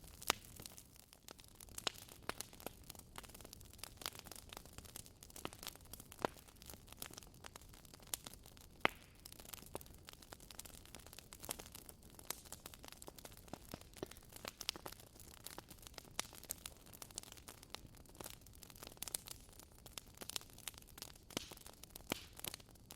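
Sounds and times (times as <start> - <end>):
bonfire crackling and popping: 0.0 - 22.9.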